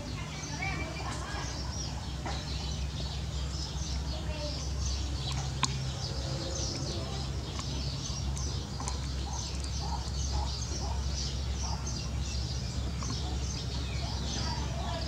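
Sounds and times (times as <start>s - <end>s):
songbirds chirping: 0.0s - 15.0s
steady low rumble: 0.0s - 15.0s.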